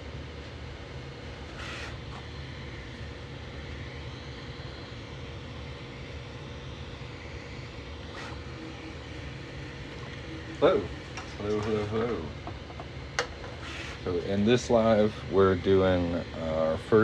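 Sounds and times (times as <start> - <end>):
print head whirring: 0.0 - 17.0
printer fan and motor hum: 0.0 - 17.0.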